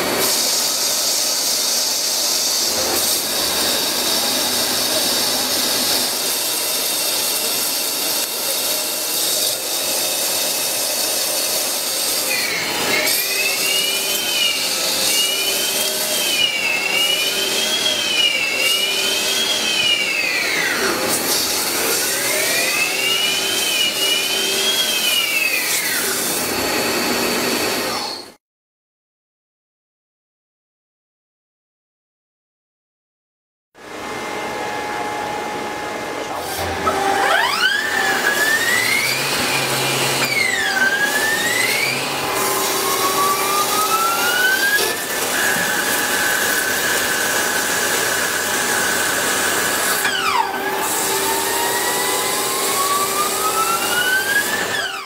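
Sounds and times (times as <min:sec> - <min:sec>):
lathe machining noise: 0:00.0 - 0:28.3, 0:33.8 - 0:55.0
pitched machine whine: 0:00.0 - 0:28.4, 0:33.8 - 0:55.0.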